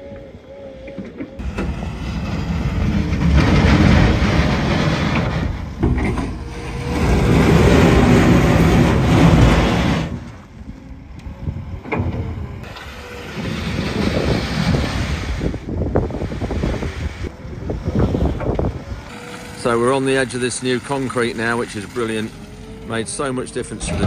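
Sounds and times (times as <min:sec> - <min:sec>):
diesel engine running: 0:01.4 - 0:24.0.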